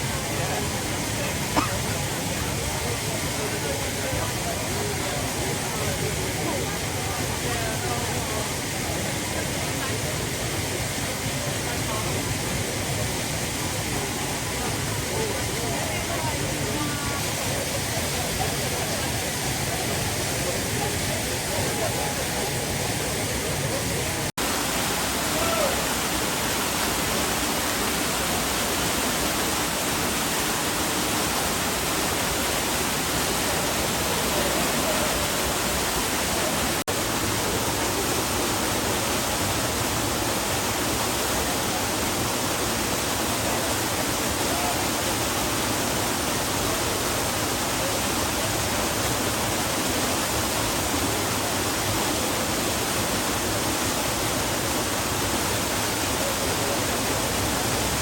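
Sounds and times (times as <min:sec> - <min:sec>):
waterfall pouring into pool: 0:00.0 - 0:58.0.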